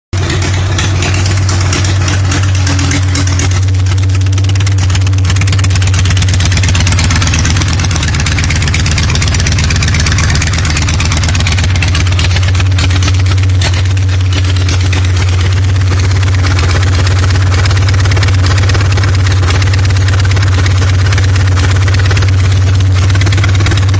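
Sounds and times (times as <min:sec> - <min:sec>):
motorcycle engine idling: 0:00.1 - 0:23.9.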